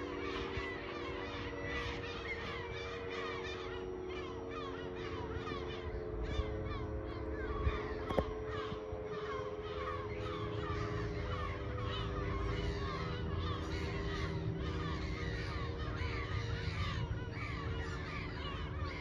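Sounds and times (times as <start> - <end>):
birds chirping: 0.0 - 19.0
distant steady siren tone: 0.0 - 19.0.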